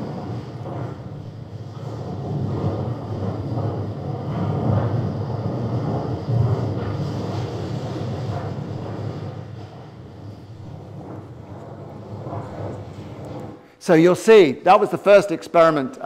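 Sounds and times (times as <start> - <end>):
low uneven rumbling: 0.0 - 15.2.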